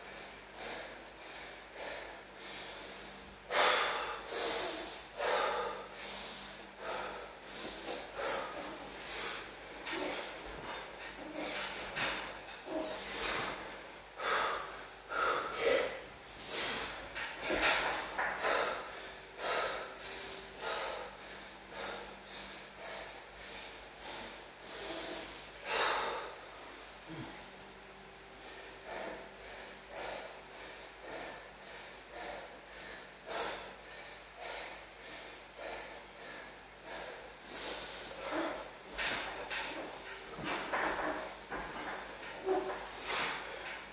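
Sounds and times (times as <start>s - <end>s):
man breathing hard: 0.0s - 43.9s.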